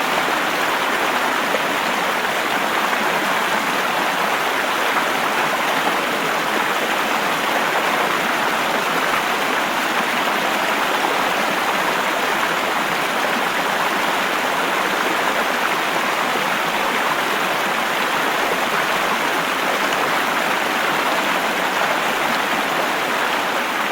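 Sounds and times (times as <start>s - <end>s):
stream water rushing: 0.0s - 23.9s.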